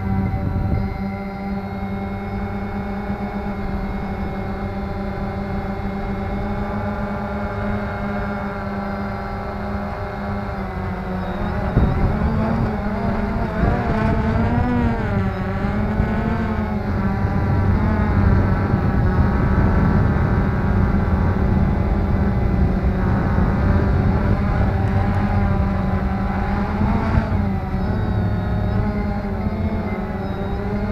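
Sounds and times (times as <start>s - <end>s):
drone motors whining: 0.0s - 30.9s.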